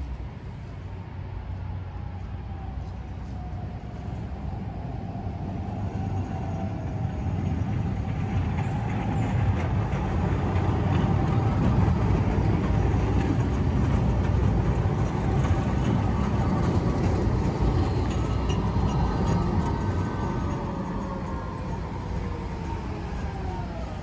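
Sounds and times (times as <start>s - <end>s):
tram running rumble: 0.0s - 24.0s.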